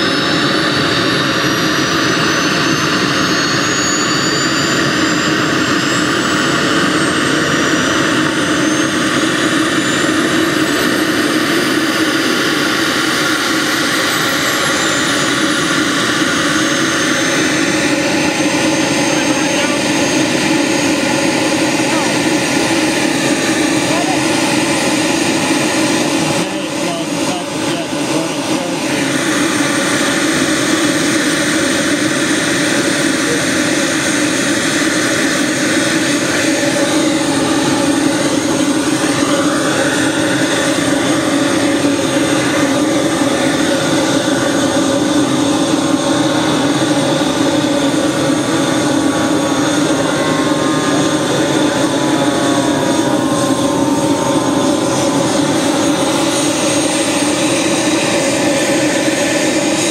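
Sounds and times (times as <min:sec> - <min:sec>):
turbine engine whine: 0:00.0 - 0:59.9.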